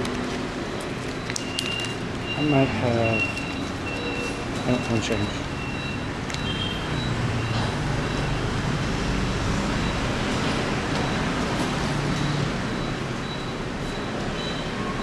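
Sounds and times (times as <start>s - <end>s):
street traffic with engines humming: 0.0s - 15.0s.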